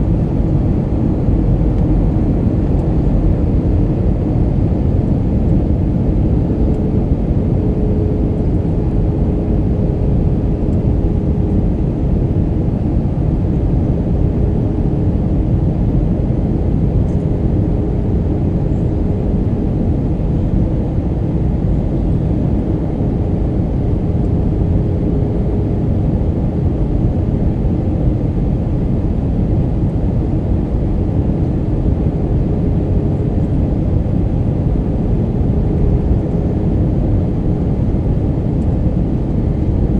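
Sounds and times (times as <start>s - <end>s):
airliner cabin airflow and engines: 0.0s - 39.9s.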